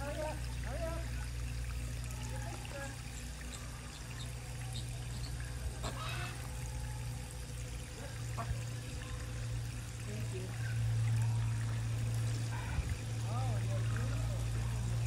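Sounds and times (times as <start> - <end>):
running water pouring: 0.0 - 15.0.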